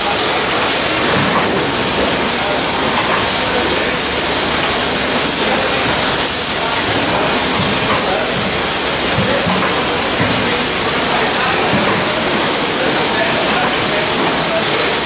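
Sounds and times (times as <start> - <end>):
conveyor machinery din: 0.0 - 15.0.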